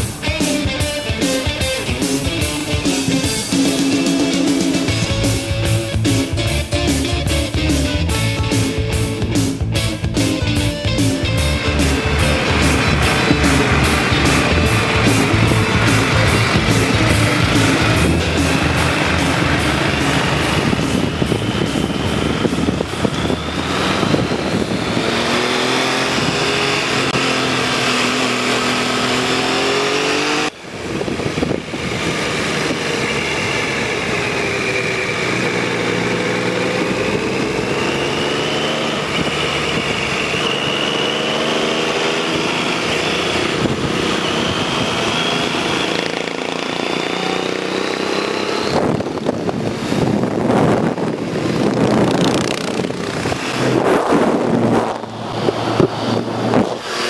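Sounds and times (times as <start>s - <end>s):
motor vehicle engine running: 0.0s - 57.0s.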